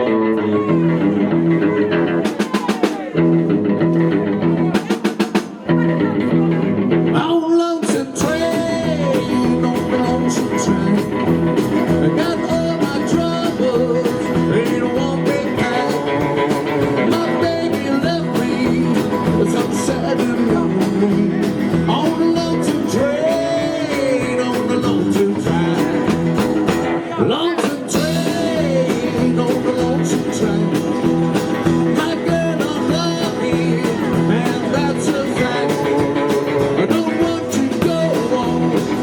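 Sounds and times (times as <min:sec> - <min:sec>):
person singing: 0:00.0 - 0:03.2, 0:07.1 - 0:39.0
guitar: 0:00.0 - 0:39.0
steady drum beat: 0:01.4 - 0:03.6, 0:04.4 - 0:06.0, 0:07.9 - 0:39.0.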